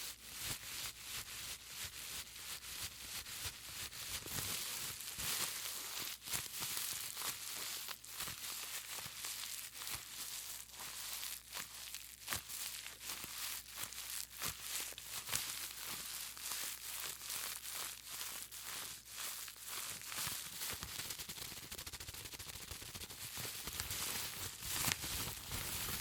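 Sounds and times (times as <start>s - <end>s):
bubble wrap crackling and popping: 0.0s - 26.0s.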